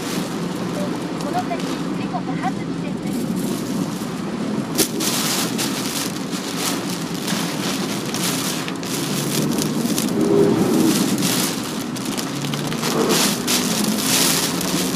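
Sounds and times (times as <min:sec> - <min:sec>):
heavy rain on car: 0:00.0 - 0:14.9
low road rumble: 0:00.0 - 0:14.9.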